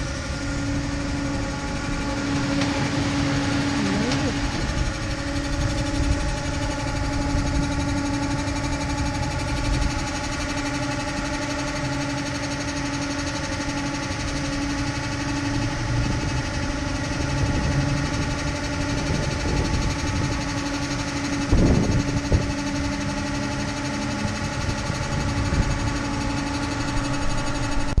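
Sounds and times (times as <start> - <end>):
wind rumble on microphone: 0.0 - 12.3, 13.2 - 28.0
cable whirring over sheave wheels: 0.0 - 28.0
steady mechanical tones: 0.0 - 28.0.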